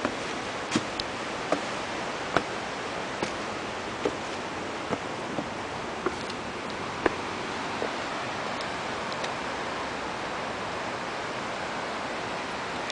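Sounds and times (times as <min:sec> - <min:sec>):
river water rushing: 0:00.0 - 0:12.9.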